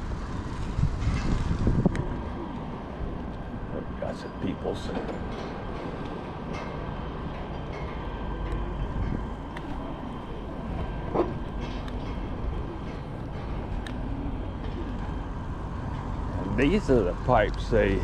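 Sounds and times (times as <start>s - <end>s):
vehicle and road rumble: 0.0s - 18.0s.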